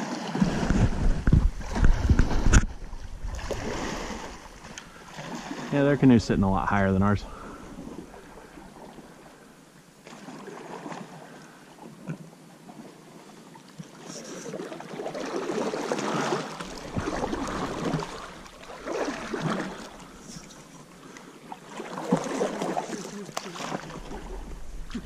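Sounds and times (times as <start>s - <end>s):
canoe paddle splashing: 0.0s - 6.4s, 7.2s - 12.0s, 12.6s - 25.0s.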